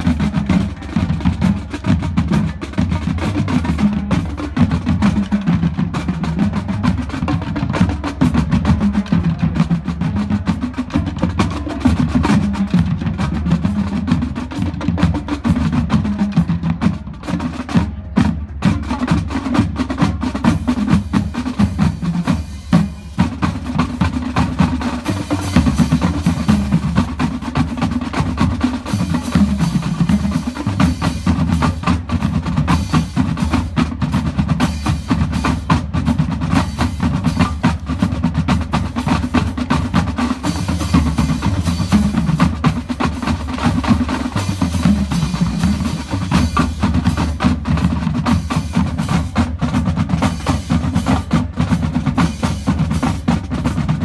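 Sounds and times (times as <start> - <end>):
marching drumline playing: 0.0 - 54.0.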